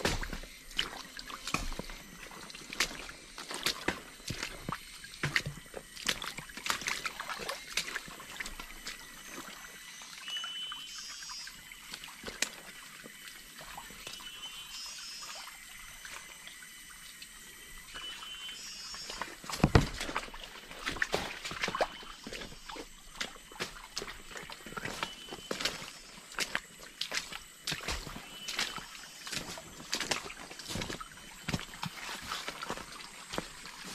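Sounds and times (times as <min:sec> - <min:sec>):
footsteps splashing through stream: 0:00.0 - 0:10.5, 0:11.6 - 0:14.6, 0:17.9 - 0:33.9
water trickling: 0:00.0 - 0:33.9.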